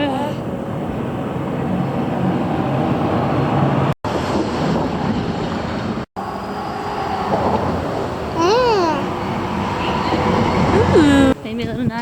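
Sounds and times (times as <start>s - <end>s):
road traffic rushing: 0.0s - 11.8s.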